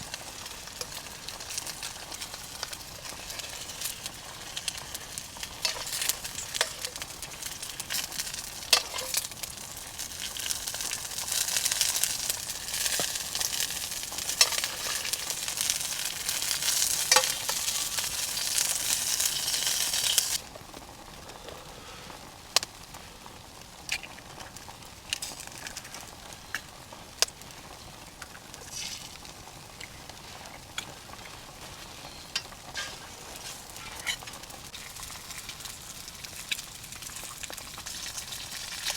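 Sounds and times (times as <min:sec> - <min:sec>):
campfire sizzling and hissing: 0:00.0 - 0:38.9
fire popping and crackling: 0:00.0 - 0:38.9.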